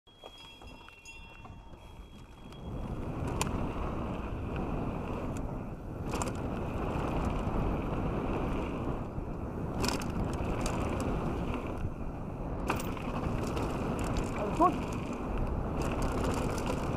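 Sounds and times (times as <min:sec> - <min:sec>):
bike rattling: 0:00.1 - 0:16.9
bike tyres crunching on gravel: 0:00.1 - 0:16.9
wind on microphone: 0:01.4 - 0:16.9.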